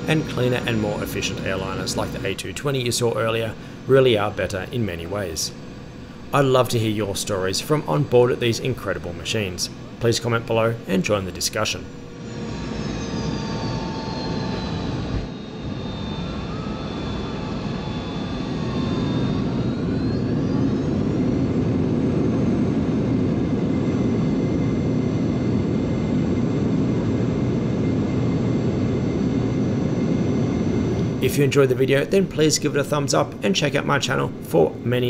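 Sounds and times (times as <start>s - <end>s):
jet engine whine and roar: 0.0s - 35.0s.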